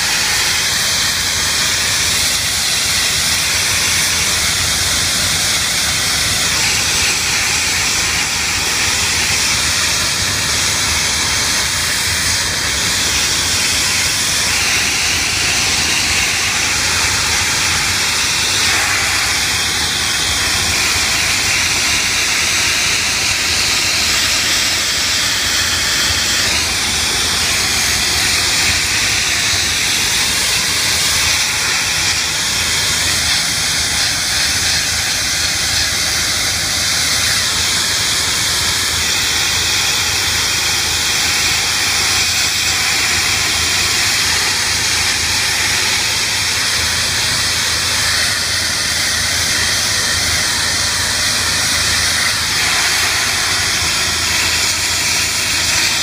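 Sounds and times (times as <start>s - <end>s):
pressure washer jet hissing: 0.0s - 56.0s.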